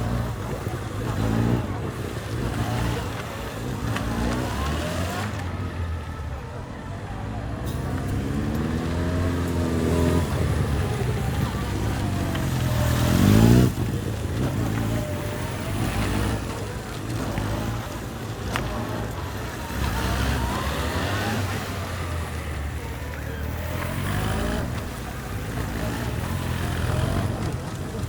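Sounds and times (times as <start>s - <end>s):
motorcycle engine revving: 0.0s - 28.0s
quieter motorcycle engine running: 0.0s - 28.0s.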